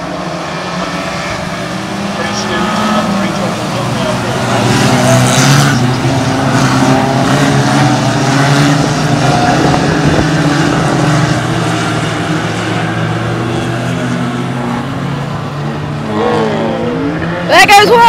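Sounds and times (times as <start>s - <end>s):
car passing close: 0.0s - 17.7s
racing car engines: 0.0s - 18.0s.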